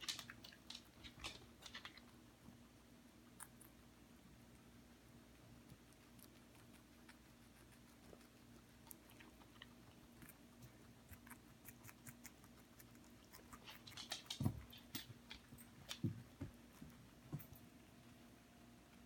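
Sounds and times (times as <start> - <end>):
guinea pigs chewing lettuce: 0.0 - 19.0.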